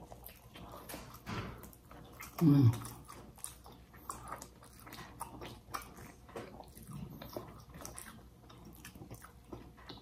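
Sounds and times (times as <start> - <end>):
chewing with wet mouth clicks: 0.0 - 10.0.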